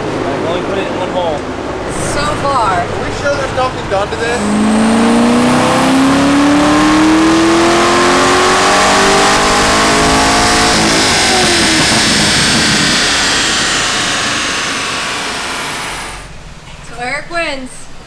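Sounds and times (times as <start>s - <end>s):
car engine at full throttle: 0.0s - 16.5s
engine winding down: 0.0s - 17.1s.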